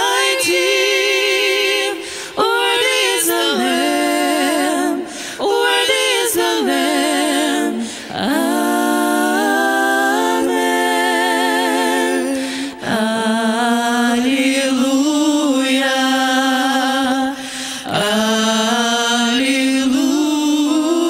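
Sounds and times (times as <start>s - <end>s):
women singing a hymn: 0.0s - 21.0s.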